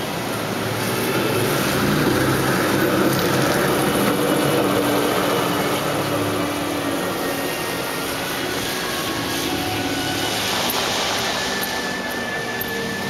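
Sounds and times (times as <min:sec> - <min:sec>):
tyre hiss on slushy road: 0:00.0 - 0:13.0
vehicle engines: 0:00.0 - 0:13.0.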